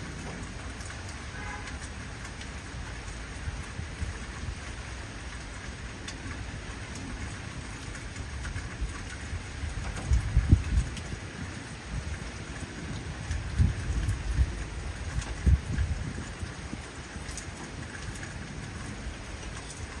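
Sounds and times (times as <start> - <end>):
heavy rain falling: 0.0 - 20.0
low rumble of thunder: 0.0 - 20.0.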